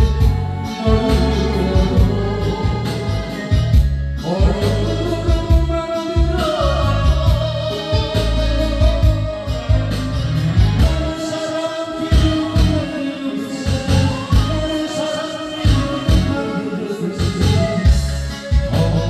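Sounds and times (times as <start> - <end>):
song with singing over bass and drums: 0.0 - 19.0.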